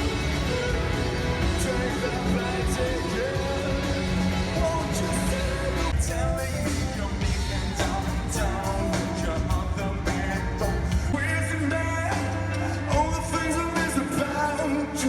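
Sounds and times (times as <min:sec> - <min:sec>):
pop-rock song with singer: 0:00.0 - 0:15.0.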